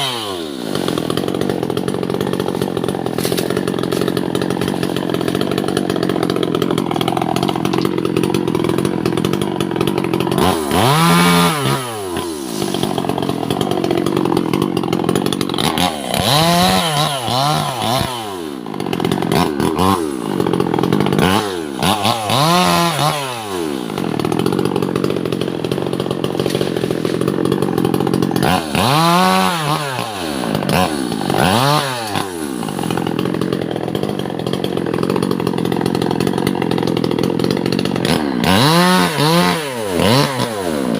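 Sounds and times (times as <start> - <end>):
chainsaw sawing timber: 0.0 - 40.9.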